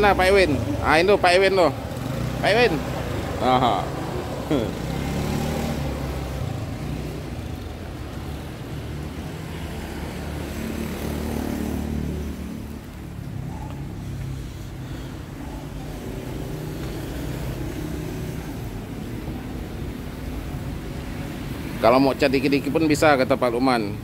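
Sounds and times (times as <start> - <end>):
low engine rumble of traffic: 0.0 - 24.0.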